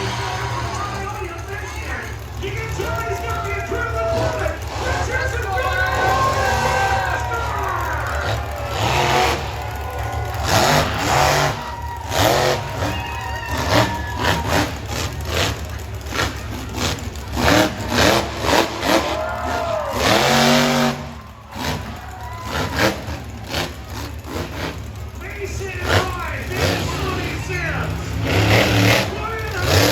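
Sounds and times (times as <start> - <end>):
arena noise rumble: 0.0 - 29.9
monster truck engines revving: 0.0 - 29.9.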